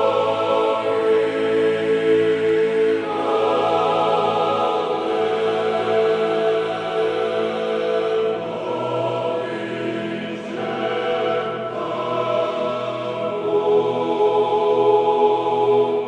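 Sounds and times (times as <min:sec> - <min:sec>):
choir singing chant: 0:00.0 - 0:16.0.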